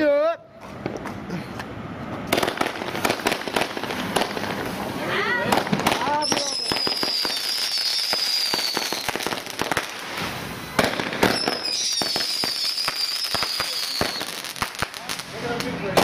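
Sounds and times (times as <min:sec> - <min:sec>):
fireworks crackling and popping: 0:00.7 - 0:16.0.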